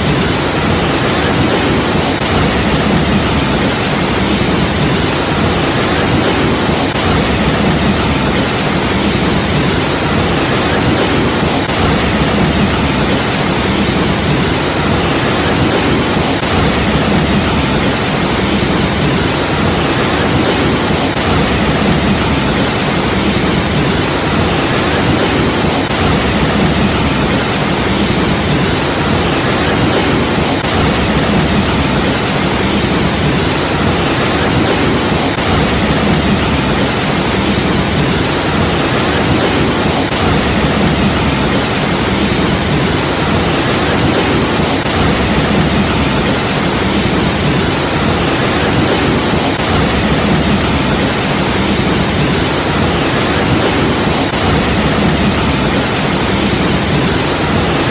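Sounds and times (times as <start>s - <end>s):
waterfall roaring: 0.0s - 57.9s.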